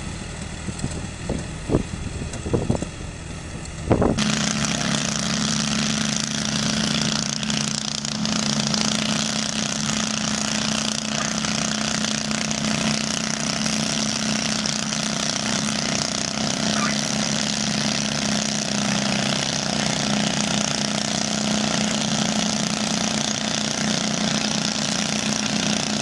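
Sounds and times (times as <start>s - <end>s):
quieter engine sound: 0.0s - 26.0s
tractor engine running at high revs: 0.0s - 26.0s.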